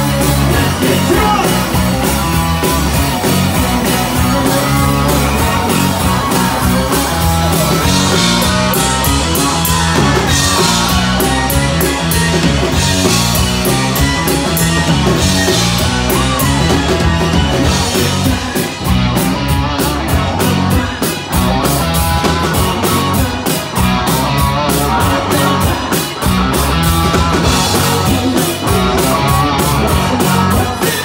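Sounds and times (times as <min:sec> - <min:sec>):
rock band playing loudly: 0:00.0 - 0:31.0.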